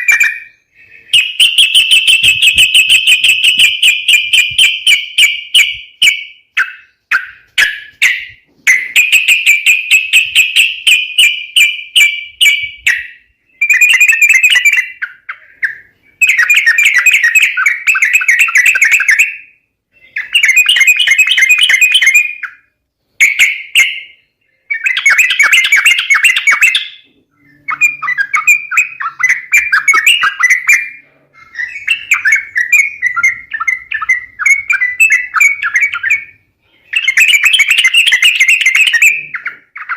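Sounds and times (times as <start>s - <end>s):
bird chattering chirps: 0.0s - 39.9s.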